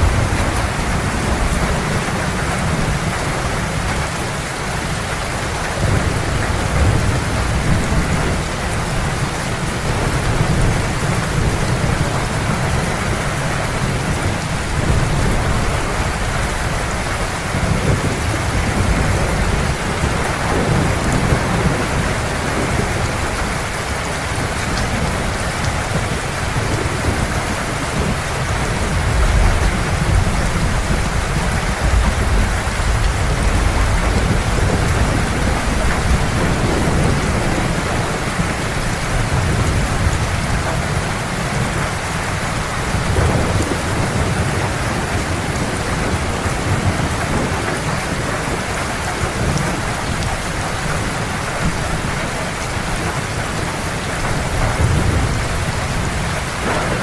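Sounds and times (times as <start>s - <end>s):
heavy rain falling: 0.0s - 57.0s
low thunder rumble: 0.0s - 57.0s.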